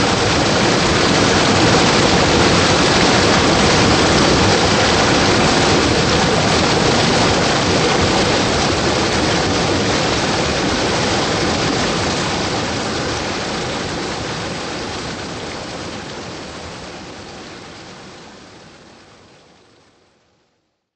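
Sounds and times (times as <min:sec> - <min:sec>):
stream water rushing over rocks: 0:00.0 - 0:19.5.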